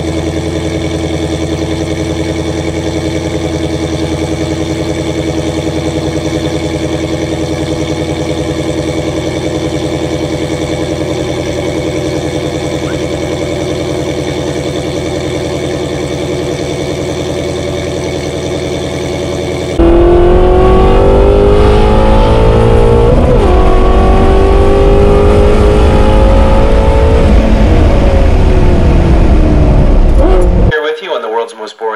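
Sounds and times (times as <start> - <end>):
car engine revving hard: 0.0 - 30.7
car engine idling: 0.0 - 30.8.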